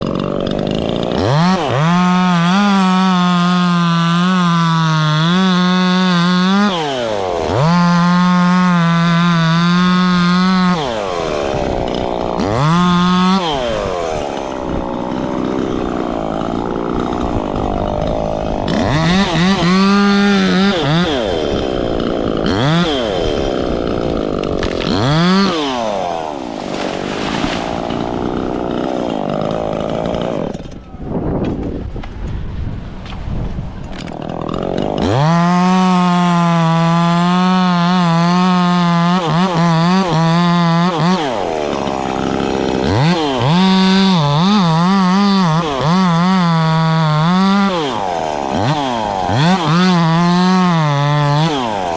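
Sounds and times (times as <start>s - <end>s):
chainsaw revving: 0.0s - 30.8s, 33.8s - 51.9s.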